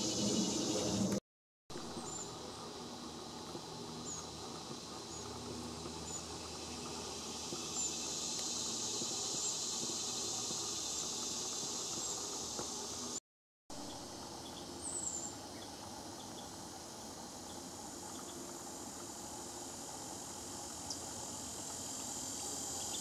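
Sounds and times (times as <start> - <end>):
insect chorus shrill hiss: 0.0 - 1.2, 1.9 - 5.4, 6.0 - 13.2, 13.8 - 23.0.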